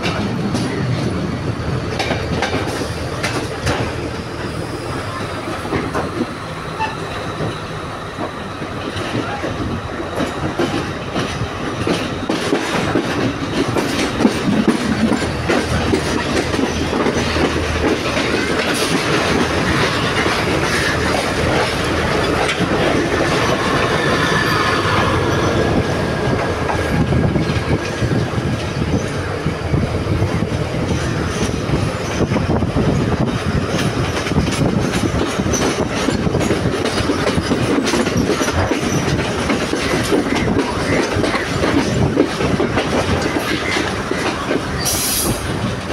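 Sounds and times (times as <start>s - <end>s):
wheels clacking over rail joints: 0.0s - 4.5s, 5.4s - 29.5s, 30.3s - 45.9s
train wheels rumbling on rails: 0.0s - 45.9s.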